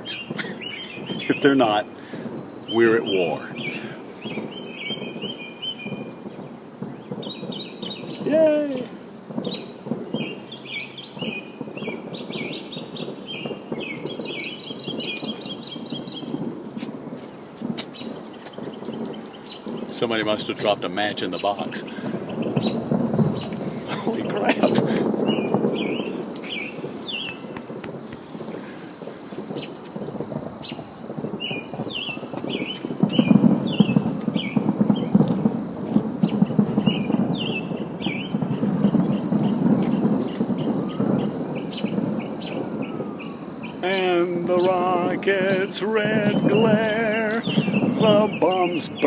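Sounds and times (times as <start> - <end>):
bird chirping: 0.0 - 49.0
distant fireworks rumbling and popping: 0.0 - 49.0.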